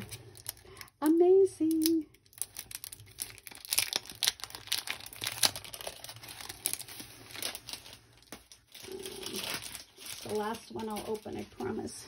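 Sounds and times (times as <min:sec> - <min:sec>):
packaging crinkling: 0:00.0 - 0:11.9.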